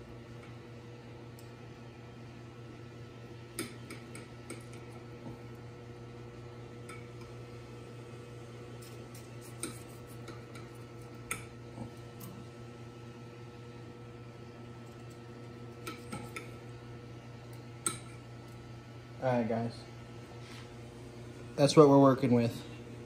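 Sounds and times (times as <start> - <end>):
microwave oven humming: 0.0 - 23.0.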